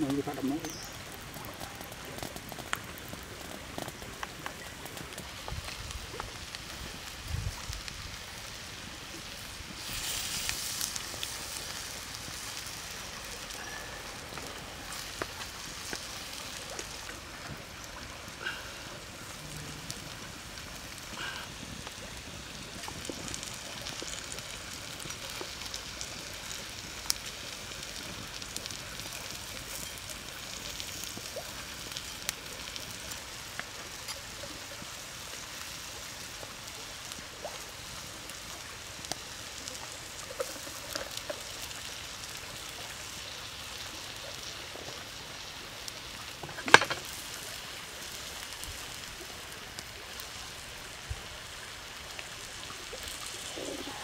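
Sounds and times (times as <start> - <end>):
prawns sizzling on hot stone: 0.0 - 54.0
small pops and crackles: 0.0 - 54.0.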